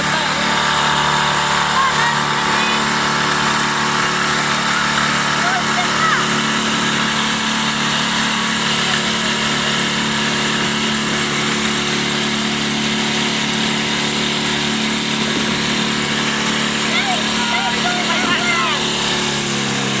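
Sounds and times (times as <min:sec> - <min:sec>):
motorboat engine drone: 0:00.0 - 0:20.0.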